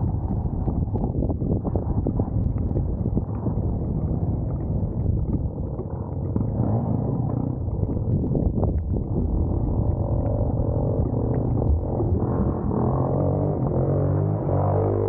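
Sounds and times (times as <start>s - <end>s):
muffled motorcycle engine: 0.0s - 15.0s.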